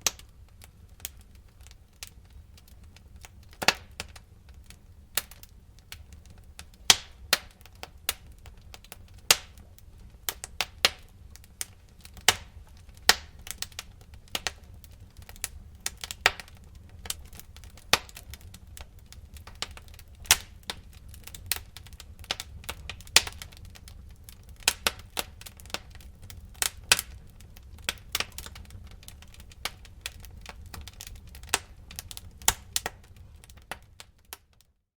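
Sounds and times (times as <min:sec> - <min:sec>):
low rumble of flames: 0:00.0 - 0:34.8
bonfire crackling and popping: 0:00.0 - 0:34.9.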